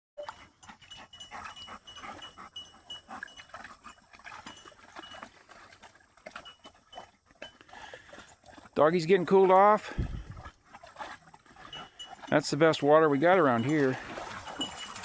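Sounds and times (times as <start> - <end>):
dogs panting: 0.2 - 15.0
dogs splashing in shallow water: 0.2 - 15.0.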